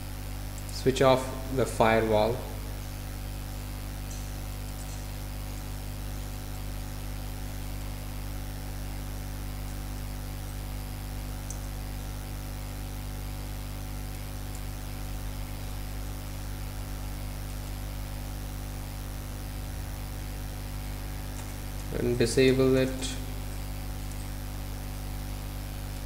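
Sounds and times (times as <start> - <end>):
electrical hum with hiss: 0.0 - 26.0.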